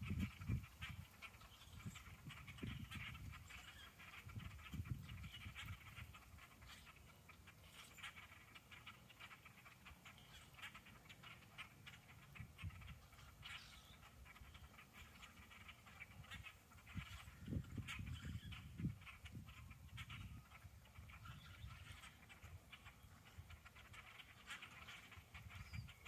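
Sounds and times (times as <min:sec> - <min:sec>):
flock of birds chattering: 0:00.0 - 0:26.0.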